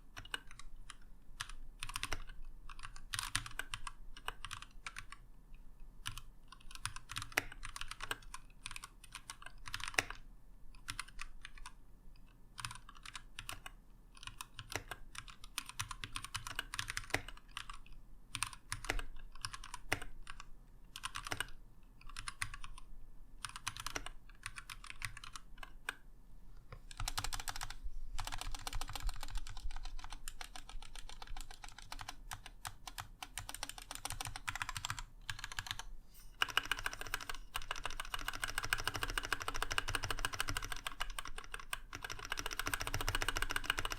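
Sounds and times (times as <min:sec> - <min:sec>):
mechanical keyboard typing: 0:00.1 - 0:05.2, 0:06.0 - 0:10.2, 0:10.8 - 0:11.8, 0:12.6 - 0:26.0, 0:26.8 - 0:43.9.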